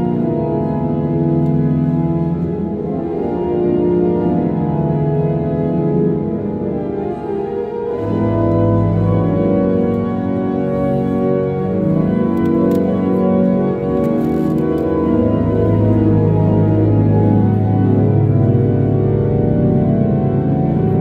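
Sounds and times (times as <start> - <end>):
pipe organ playing chords: 0.0 - 21.0.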